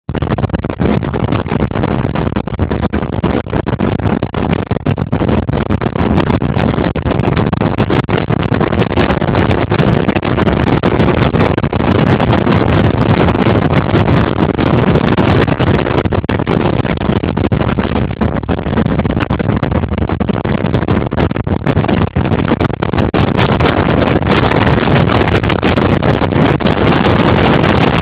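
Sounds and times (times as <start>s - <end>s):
boat engine and water rush: 0.1s - 28.0s
wind buffeting microphone: 0.1s - 28.0s.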